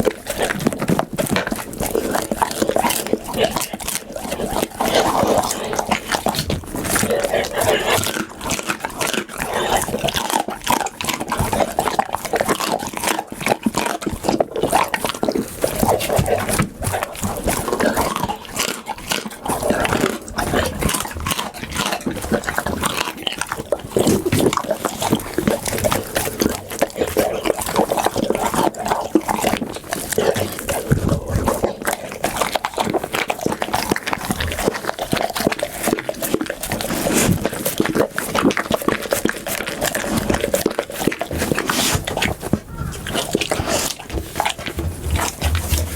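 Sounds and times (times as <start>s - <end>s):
dog chewing and smacking: 0.0s - 45.9s.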